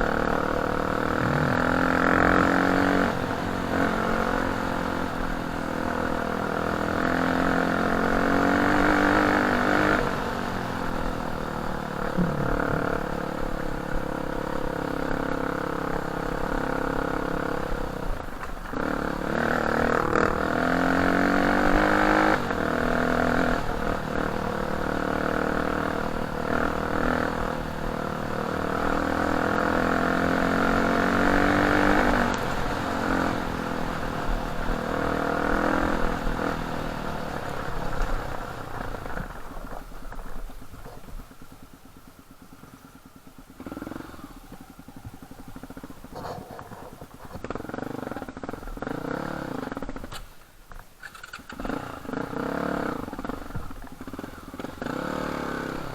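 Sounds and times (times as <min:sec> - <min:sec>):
dirt bike engine revving: 0:00.0 - 0:39.3, 0:42.0 - 0:50.2, 0:51.0 - 0:55.9.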